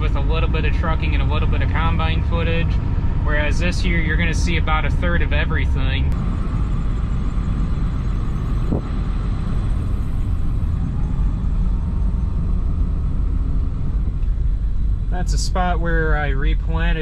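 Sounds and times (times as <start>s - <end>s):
faint steady whine: 0.0s - 17.0s
vehicle engine rumbling: 0.0s - 17.0s.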